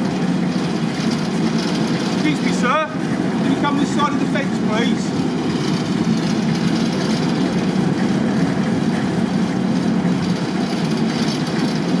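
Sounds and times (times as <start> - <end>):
diesel locomotive engine idling: 0.0 - 12.0.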